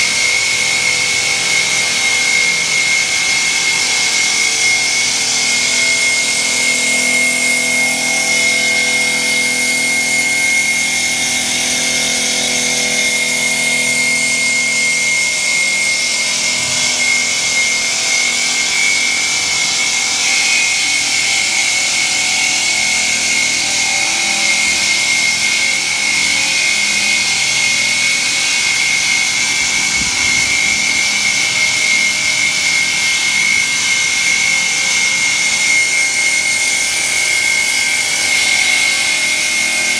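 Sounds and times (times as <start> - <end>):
circular saw blade whining: 0.0 - 39.9.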